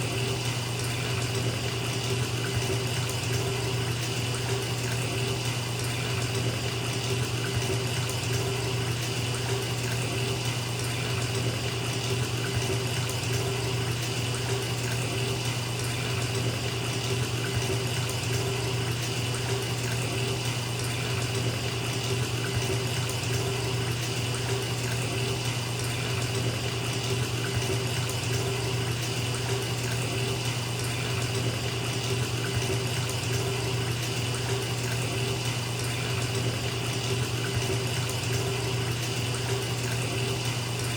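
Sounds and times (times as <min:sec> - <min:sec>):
tap water filling bathtub: 0:00.0 - 0:40.9.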